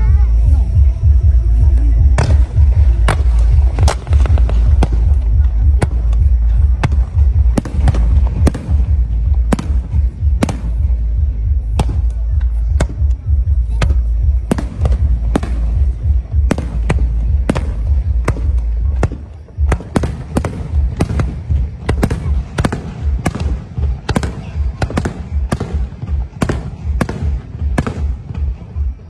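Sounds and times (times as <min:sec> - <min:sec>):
low rumble: 0:00.0 - 0:28.4
fireworks bangs: 0:02.0 - 0:29.0.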